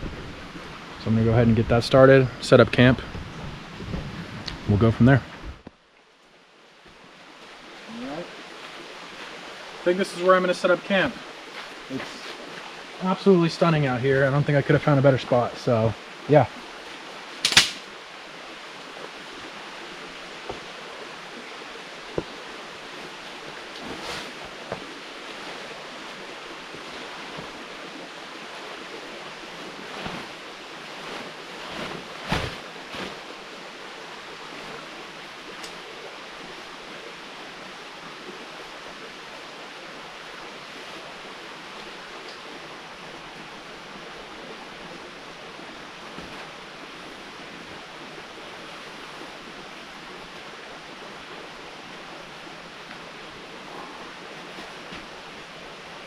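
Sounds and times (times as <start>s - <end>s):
steady rushing outdoor noise: 0.0s - 56.0s.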